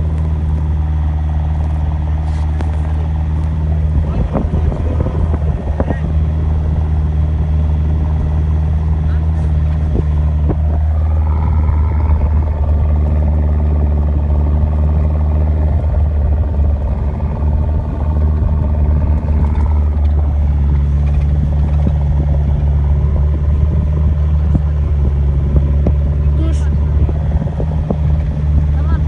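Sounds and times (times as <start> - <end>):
pickup truck engine running: 0.0 - 29.0.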